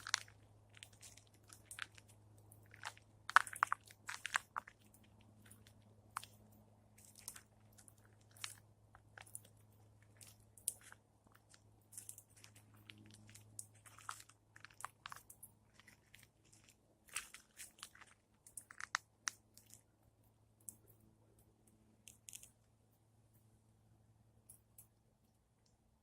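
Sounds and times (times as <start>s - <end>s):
squirrel gnawing food: 0.0s - 23.5s
faint low hum: 0.0s - 26.0s.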